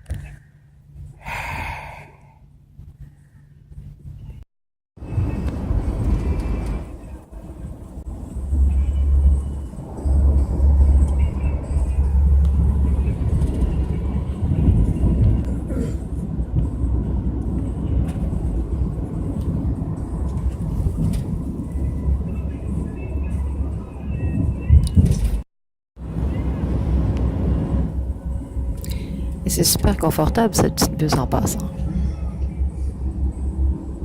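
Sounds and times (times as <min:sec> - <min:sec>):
bus engine and road rumble: 0:00.0 - 0:04.4, 0:05.0 - 0:34.0.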